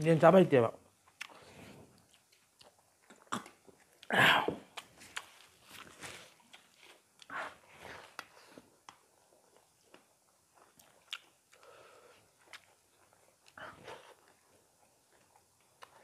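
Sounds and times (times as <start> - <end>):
chewing: 1.0 - 4.1, 4.7 - 16.0.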